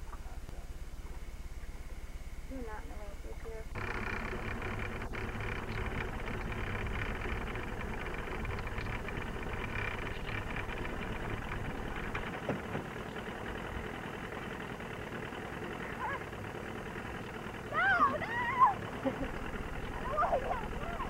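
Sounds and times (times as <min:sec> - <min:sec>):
motorboat engine idling: 0:00.0 - 0:21.0.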